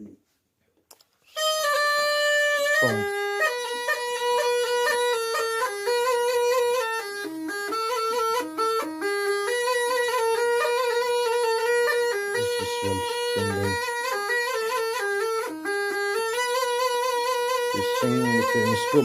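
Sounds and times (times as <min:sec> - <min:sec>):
snake charmer's pipe melody: 0:01.2 - 0:19.0.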